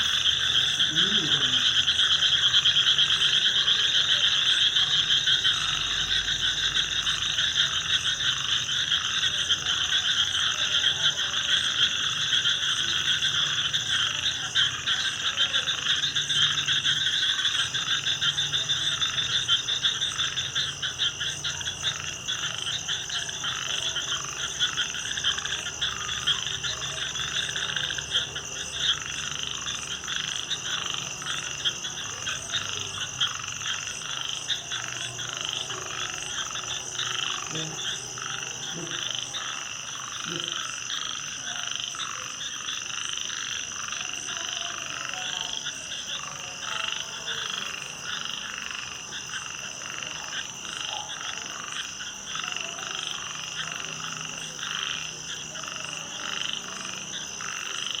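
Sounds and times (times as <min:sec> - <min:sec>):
frogs croaking: 0:00.0 - 0:58.0.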